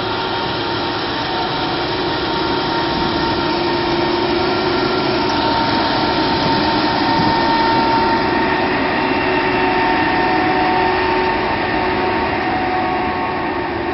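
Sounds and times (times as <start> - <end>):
combine harvester machinery noise: 0.0 - 13.9
steady whining tones: 0.0 - 13.9.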